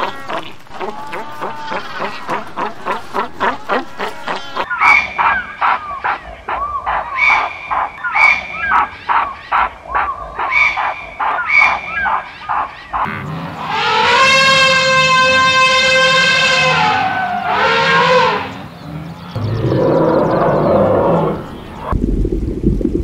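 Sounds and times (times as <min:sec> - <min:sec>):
elephant trumpeting: 0:00.0 - 0:21.9.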